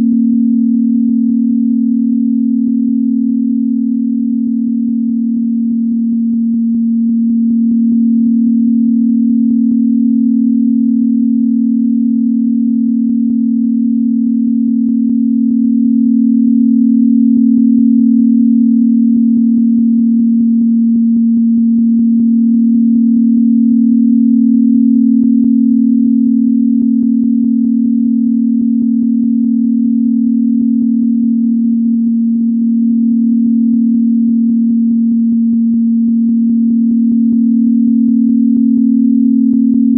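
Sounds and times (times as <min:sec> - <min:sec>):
low pure synthesized tone: 0:00.0 - 0:39.9.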